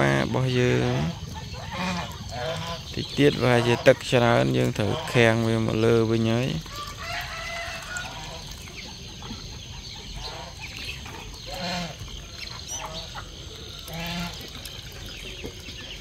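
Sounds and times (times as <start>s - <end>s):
poultry calling: 0.0s - 16.0s
poultry chirps and clucks: 0.0s - 16.0s.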